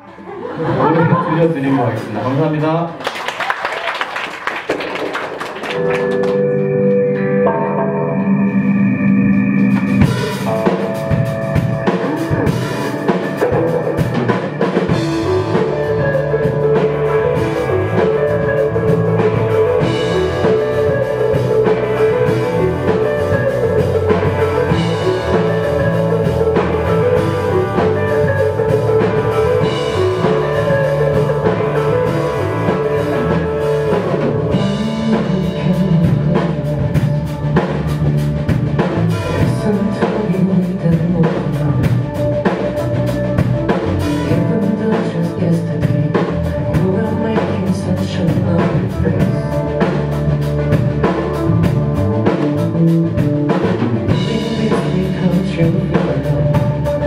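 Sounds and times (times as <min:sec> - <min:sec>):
drum kit playing: 0:03.8 - 0:57.0
electric guitar: 0:04.5 - 0:57.0.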